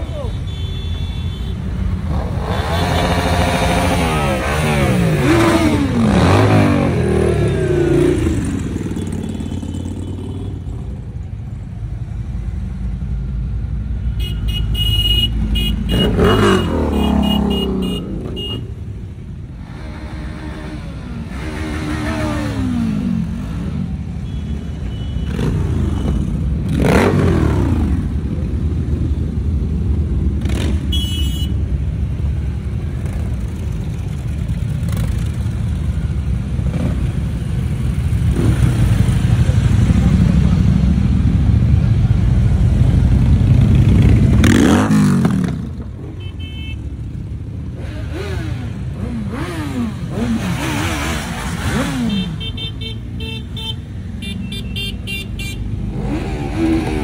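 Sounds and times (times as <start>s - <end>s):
motorcycles riding past: 1.6s - 13.3s, 15.2s - 57.0s.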